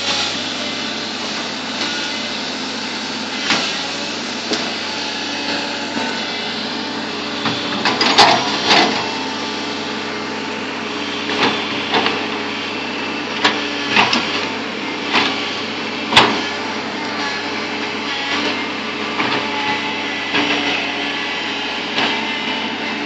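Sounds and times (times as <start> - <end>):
bulldozer engine running: 0.0 - 23.0.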